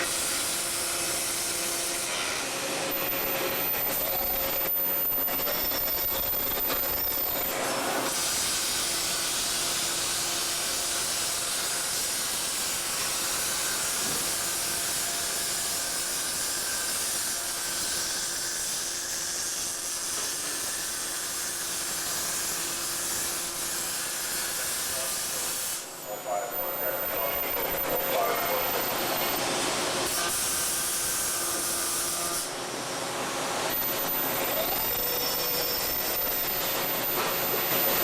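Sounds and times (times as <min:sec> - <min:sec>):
welding arc hiss: 0:00.0 - 0:32.6, 0:33.6 - 0:38.0.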